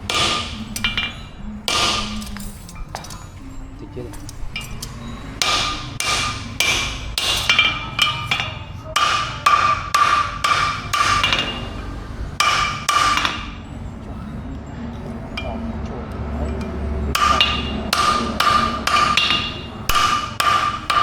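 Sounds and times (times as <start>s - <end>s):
hammer striking metal on anvil: 0.0s - 3.2s, 4.2s - 13.8s, 15.2s - 21.0s.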